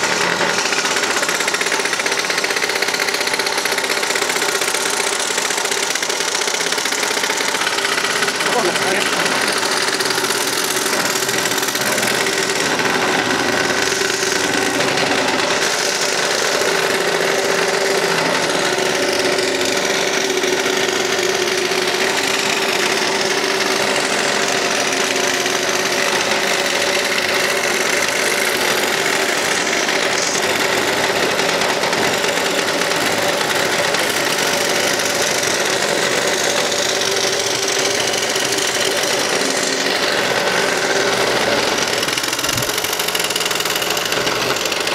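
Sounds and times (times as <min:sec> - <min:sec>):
scroll saw cutting wood: 0:00.0 - 0:44.9.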